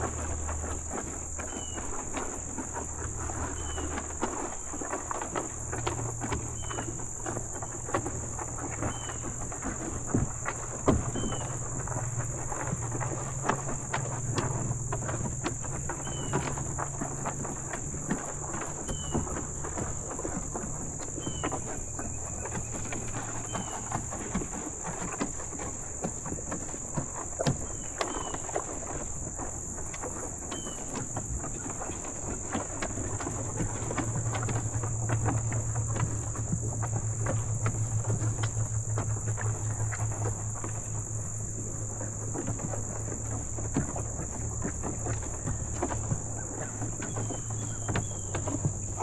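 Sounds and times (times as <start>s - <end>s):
cows crunching feed: 0.0s - 49.0s
high insect drone: 0.0s - 49.0s.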